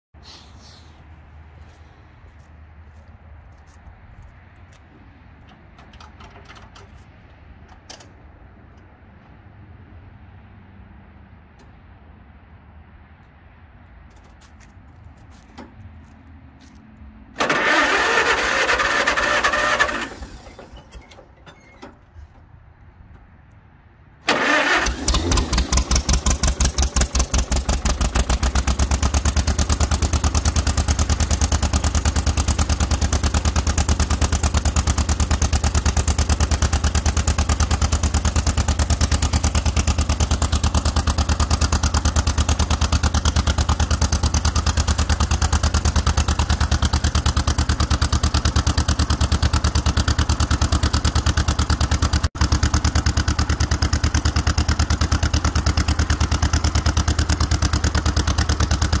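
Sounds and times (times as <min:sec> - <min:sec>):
tractor engine starting and idling: 0:04.7 - 0:10.1, 0:17.2 - 0:59.0.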